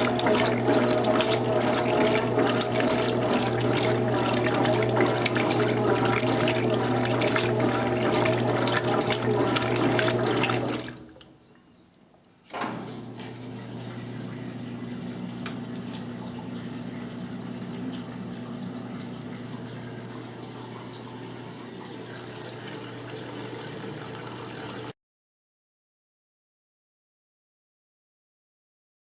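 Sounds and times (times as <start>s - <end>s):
washing machine mechanical hum: 0.0s - 25.0s
washing machine water running: 0.0s - 25.0s.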